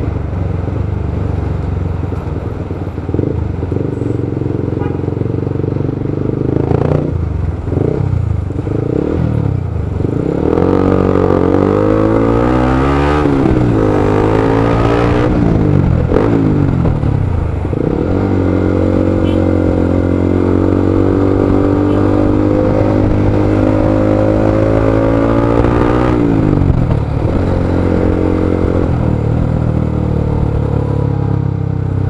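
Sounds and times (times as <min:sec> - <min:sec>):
motorcycle engine revving: 0:01.8 - 0:32.0.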